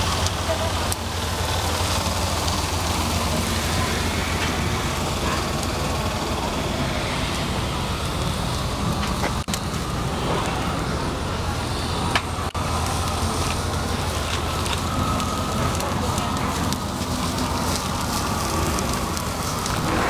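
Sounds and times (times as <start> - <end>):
fire crackling: 0.0 - 20.0
low outdoor hum and rumble: 0.0 - 20.0.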